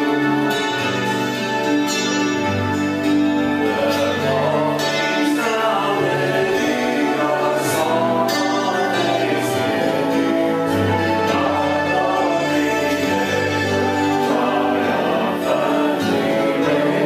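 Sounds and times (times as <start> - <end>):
worship music with singing: 0.0 - 17.0.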